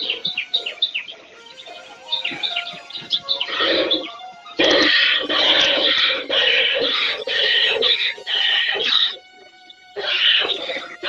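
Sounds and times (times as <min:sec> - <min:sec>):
faint background music: 0:00.0 - 0:11.0
small birds chirping: 0:00.0 - 0:11.0.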